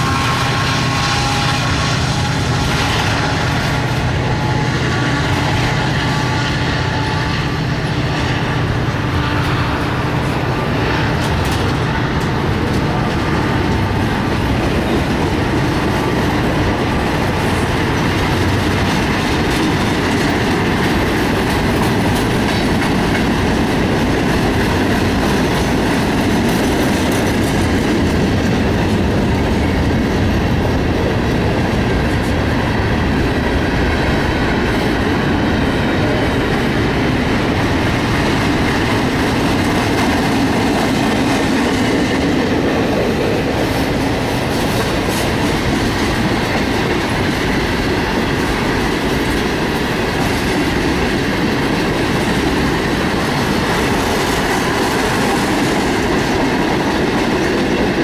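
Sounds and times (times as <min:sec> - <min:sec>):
diesel locomotive engine: 0:00.0 - 0:58.0
freight train wheels rumbling on rail: 0:00.0 - 0:58.0
wheels clickety-clack over joints: 0:00.0 - 0:58.0.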